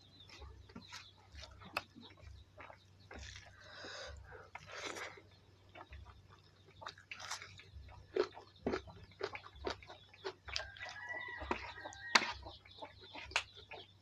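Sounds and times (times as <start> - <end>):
close-up chewing and crunching: 0.2 - 14.0.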